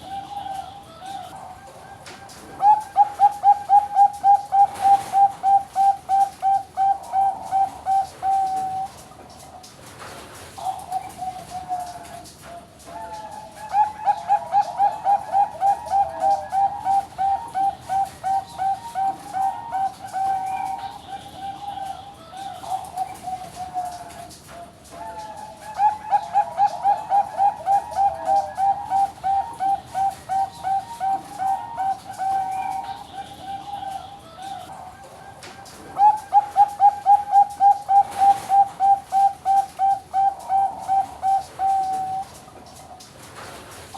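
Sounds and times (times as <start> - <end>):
dove cooing: 0.0 - 9.7, 10.6 - 43.1.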